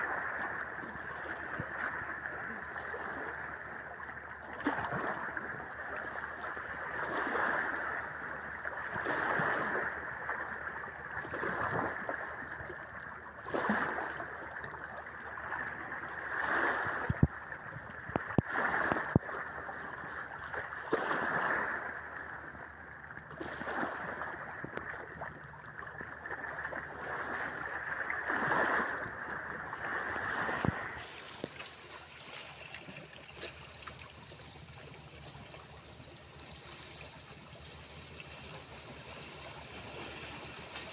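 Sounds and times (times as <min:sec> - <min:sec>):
small waves washing over rocks: 0:00.0 - 0:12.7, 0:13.4 - 0:14.5, 0:15.4 - 0:22.2, 0:23.3 - 0:25.2, 0:26.2 - 0:40.9.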